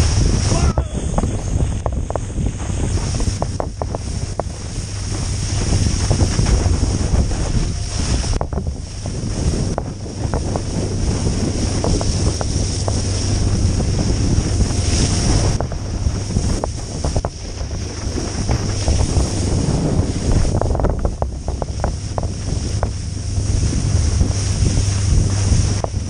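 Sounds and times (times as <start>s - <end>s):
boat wake churning: 0.0s - 26.0s
low engine rumble: 0.0s - 26.0s
wind buffeting the microphone: 0.0s - 26.0s.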